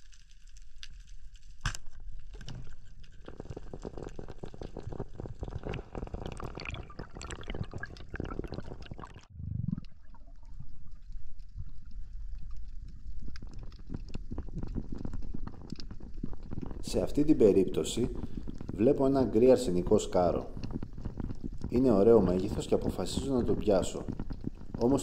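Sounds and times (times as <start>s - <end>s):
dense crackle of clicks: 0.0s - 25.0s
underwater bubbling: 2.1s - 25.0s.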